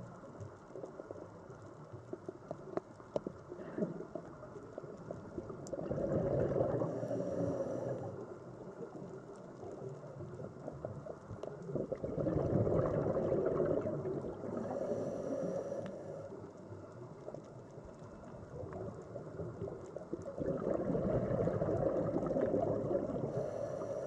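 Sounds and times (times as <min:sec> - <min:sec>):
fizzing crackling water: 0:00.0 - 0:24.0.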